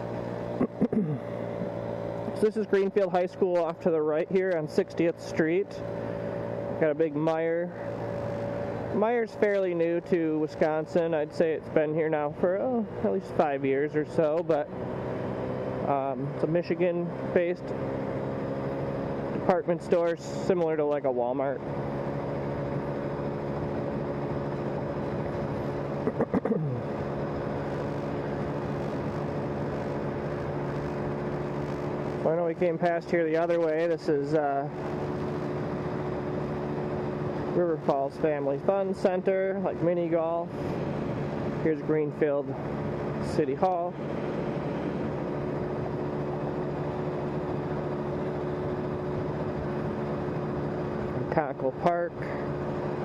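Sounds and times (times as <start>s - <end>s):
road noise: 0.0s - 53.0s
vehicle engine drone: 0.0s - 53.0s.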